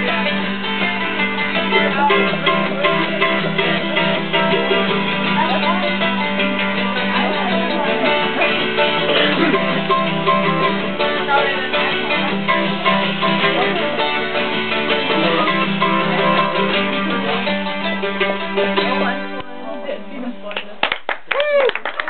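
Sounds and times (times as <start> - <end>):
acoustic guitar: 0.0 - 20.8
mandolin: 0.0 - 20.9.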